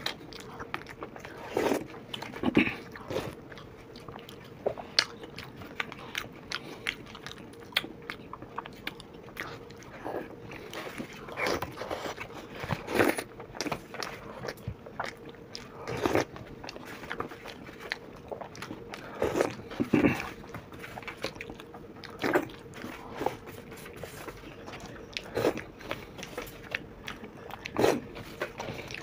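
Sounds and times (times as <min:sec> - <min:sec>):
wet chewing and crunching: 0:00.0 - 0:29.0.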